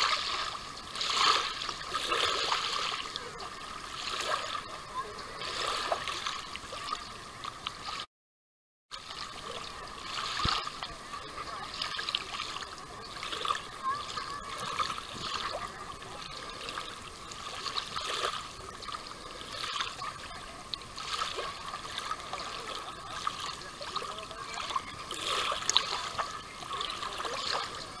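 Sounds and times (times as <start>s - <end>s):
water trickling and lapping: 0.0s - 8.1s, 8.9s - 28.0s.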